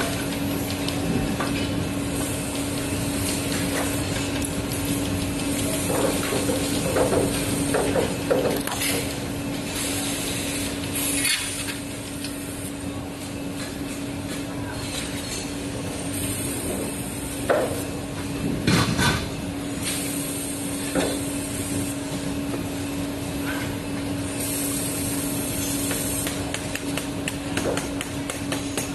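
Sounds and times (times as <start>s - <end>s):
industrial machine humming: 0.0s - 28.9s.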